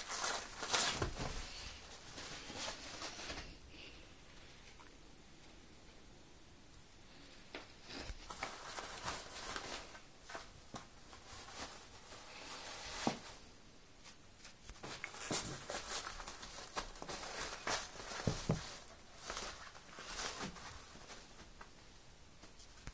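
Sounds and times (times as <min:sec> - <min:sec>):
paper rustling and crinkling: 0:00.0 - 0:03.6, 0:07.6 - 0:22.9.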